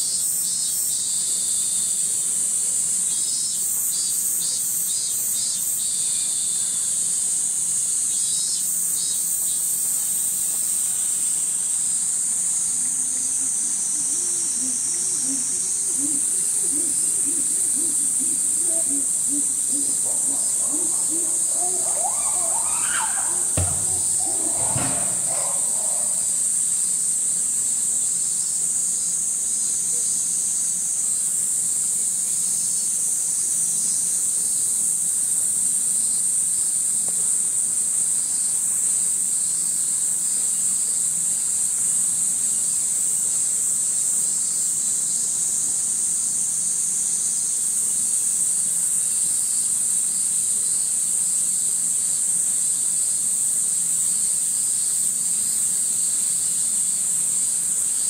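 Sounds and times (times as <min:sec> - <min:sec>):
cicadas buzzing: 0:00.0 - 0:58.0.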